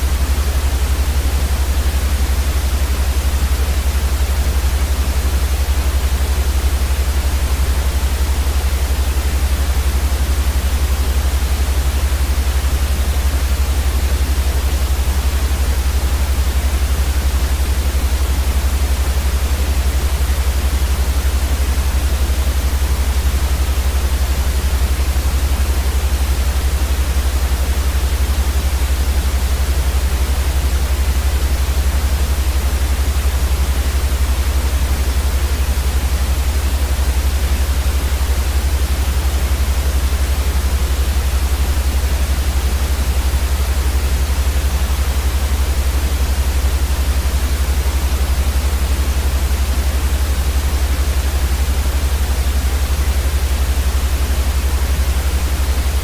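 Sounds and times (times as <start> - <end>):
white noise with deep rumble: 0.0 - 56.0.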